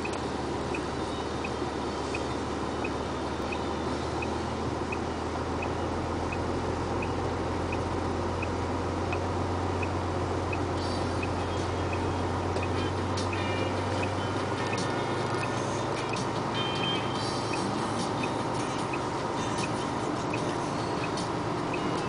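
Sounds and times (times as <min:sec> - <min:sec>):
road noise: 0:00.0 - 0:22.0
truck engine drone: 0:00.0 - 0:22.0.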